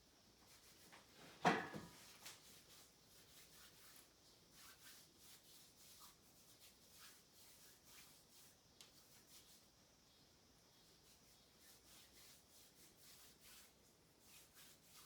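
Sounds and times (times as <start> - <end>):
hands rubbing with chalk: 0.5 - 1.1, 2.0 - 9.8, 10.8 - 15.0.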